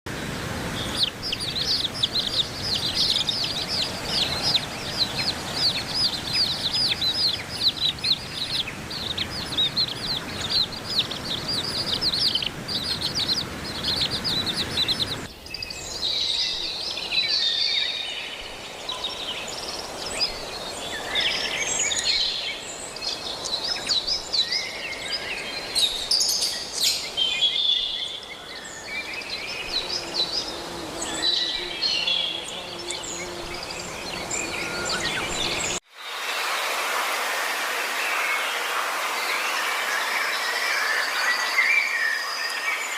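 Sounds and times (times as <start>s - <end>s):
birds chirping: 0.2s - 35.8s.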